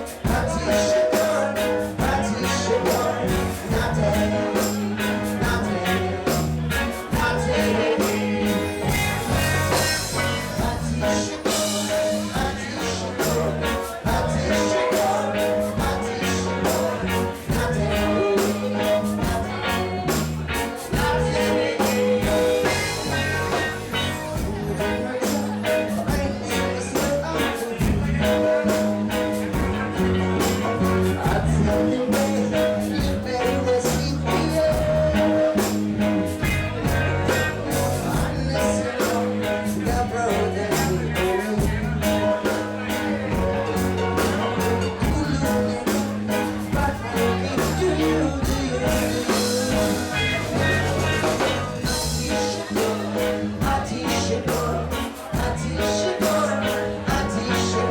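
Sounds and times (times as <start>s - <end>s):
bass line: 0.0s - 57.9s
live reggae band playing: 0.0s - 57.9s.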